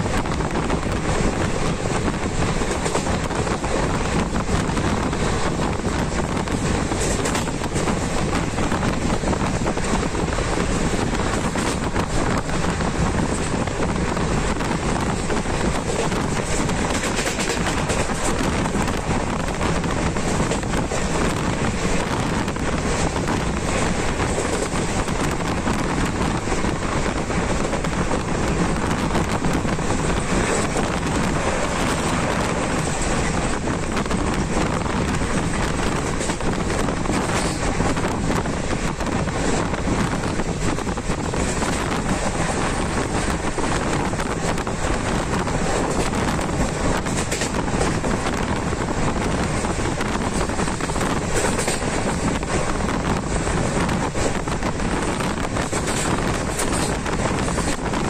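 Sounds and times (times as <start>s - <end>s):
train rumbling on track: 0.0s - 58.0s
wind on microphone: 0.0s - 58.0s.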